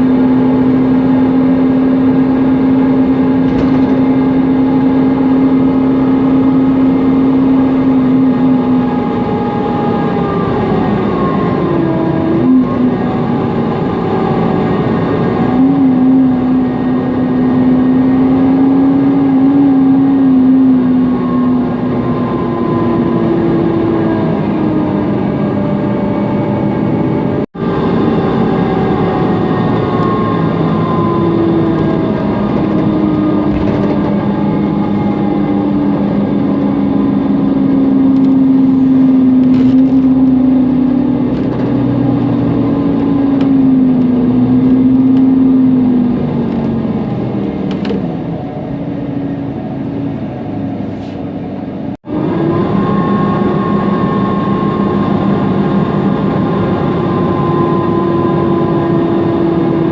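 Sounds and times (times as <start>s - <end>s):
bus engine and driveline running: 0.0s - 59.9s.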